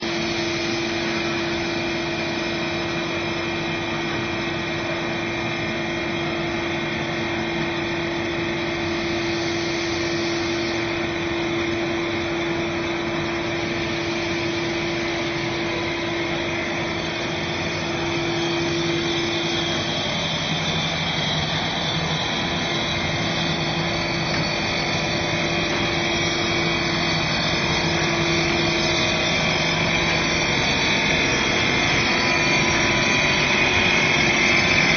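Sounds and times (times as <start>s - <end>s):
cutting machine drone and whine: 0.0s - 34.9s.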